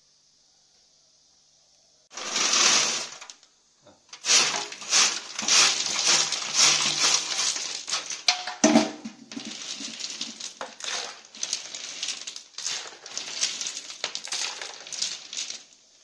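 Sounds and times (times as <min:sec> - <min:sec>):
pebbles clattering onto concrete: 0:02.1 - 0:03.5, 0:04.1 - 0:16.0.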